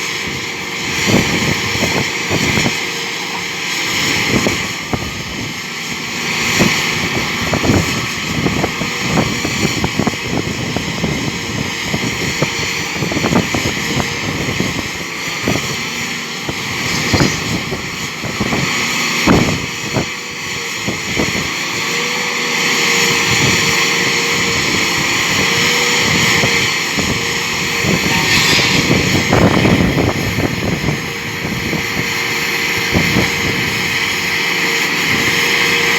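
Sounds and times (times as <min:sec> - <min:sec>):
rock drilling rig running: 0:00.0 - 0:35.9.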